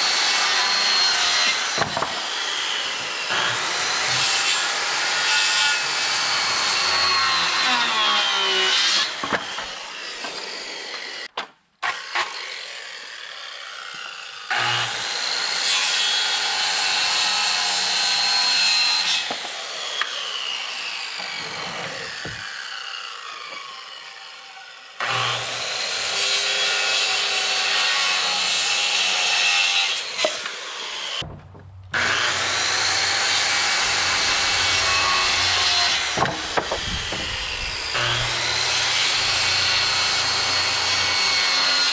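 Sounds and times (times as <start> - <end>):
electric saw cutting wood: 0.0 - 31.2, 31.9 - 41.9.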